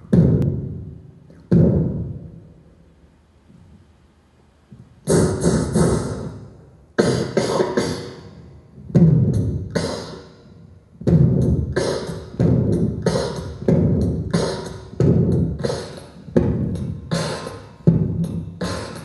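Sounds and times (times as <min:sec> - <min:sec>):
beatbox drum-like hits: 0:00.0 - 0:02.2, 0:04.7 - 0:19.0.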